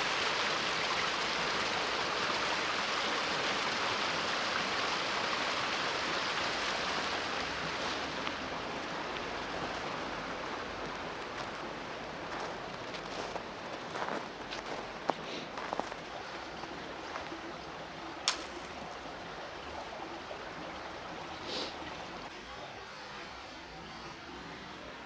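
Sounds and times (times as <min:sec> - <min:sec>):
running water rushing: 0:00.0 - 0:22.4.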